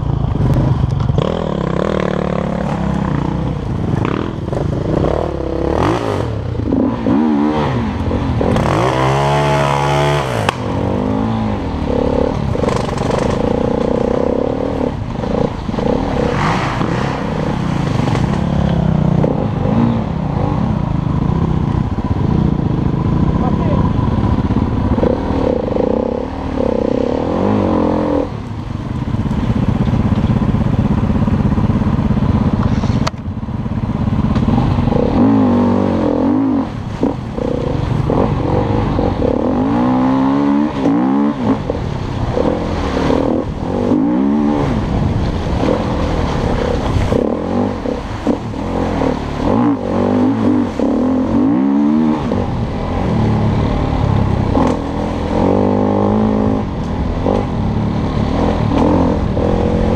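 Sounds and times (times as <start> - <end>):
off-road motorcycle engine revving: 0.0 - 59.9.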